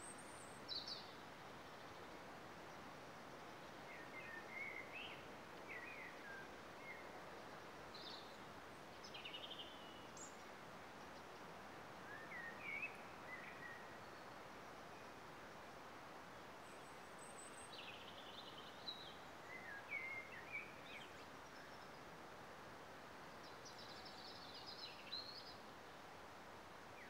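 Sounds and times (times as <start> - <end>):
faint hiss: 0.0 - 27.0
faint songbirds singing: 0.0 - 27.0.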